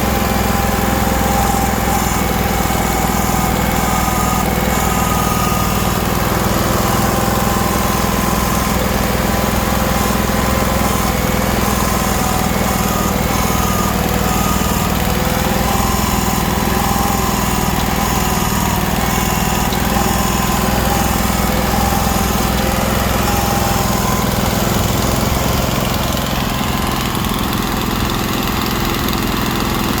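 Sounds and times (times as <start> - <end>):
stump grinder engine running: 0.0 - 30.0.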